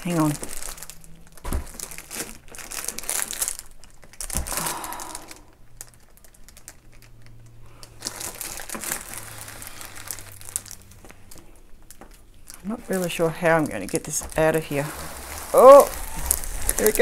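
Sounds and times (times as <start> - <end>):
plastic and cardboard packaging rustling: 0.0 - 17.0.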